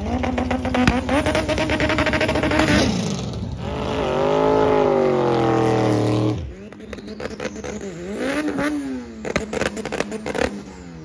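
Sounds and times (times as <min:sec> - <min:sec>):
drag car engine revving with pops: 0:00.0 - 0:11.0.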